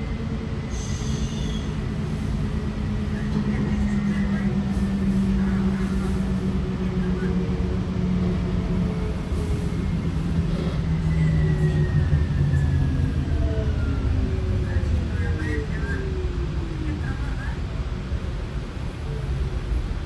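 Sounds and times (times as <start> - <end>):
wheels rumbling on rails: 0.0 - 20.0.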